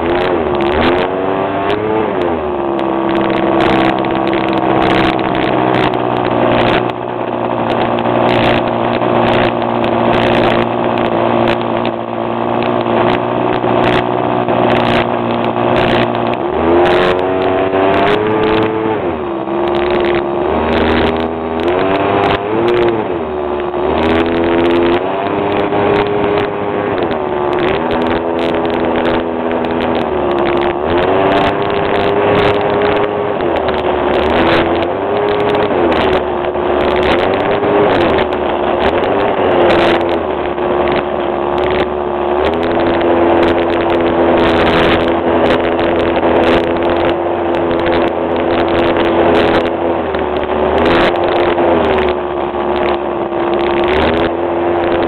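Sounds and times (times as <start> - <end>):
model airplane engine running: 0.0 - 55.0
rush of noise: 0.0 - 55.0.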